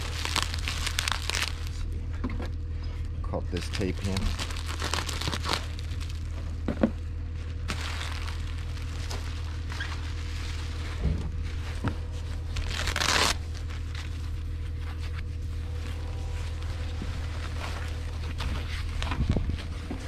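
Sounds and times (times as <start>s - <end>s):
foam and bubble wrap crinkling: 0.0s - 2.6s, 3.4s - 20.0s.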